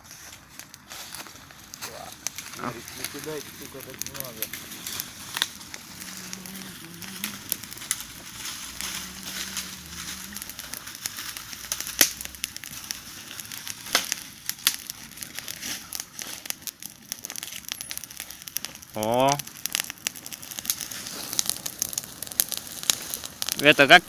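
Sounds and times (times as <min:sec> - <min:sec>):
bonfire crackling: 0:00.0 - 0:24.0
sharp fire pops: 0:00.0 - 0:24.0.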